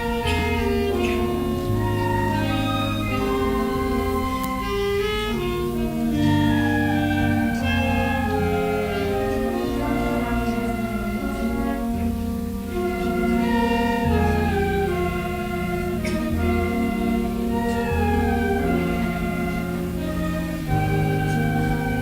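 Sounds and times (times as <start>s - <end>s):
school band playing: 0.0s - 22.0s.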